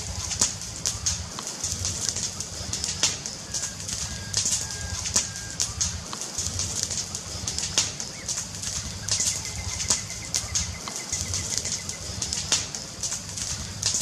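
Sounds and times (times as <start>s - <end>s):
fire crackling and popping: 0.0s - 14.0s
low rumble: 0.0s - 14.0s
steady hiss: 0.0s - 14.0s.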